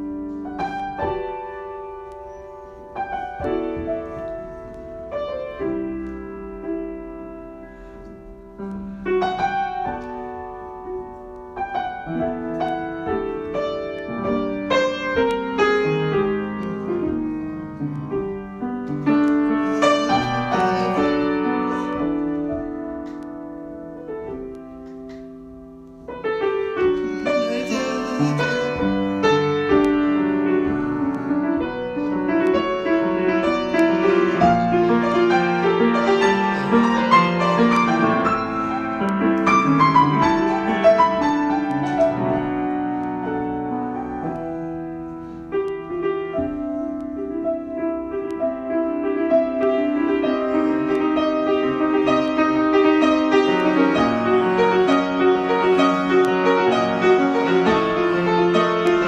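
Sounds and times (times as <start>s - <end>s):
solo piano: 0.0s - 59.0s.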